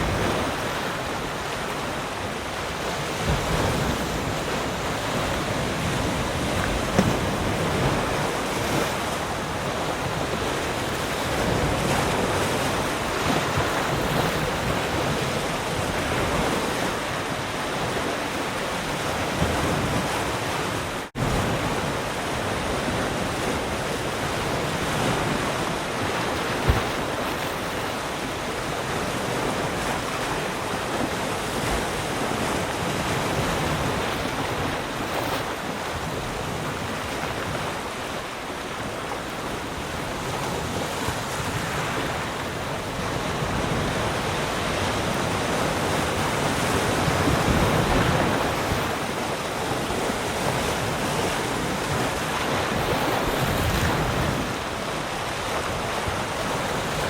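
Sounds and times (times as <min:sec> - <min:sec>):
waves breaking on shore: 0:00.0 - 0:57.0.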